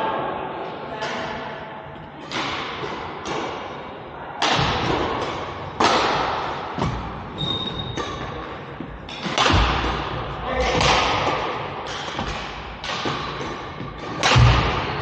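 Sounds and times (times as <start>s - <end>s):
racket hitting shuttlecock: 2.2s - 3.8s, 4.4s - 15.0s.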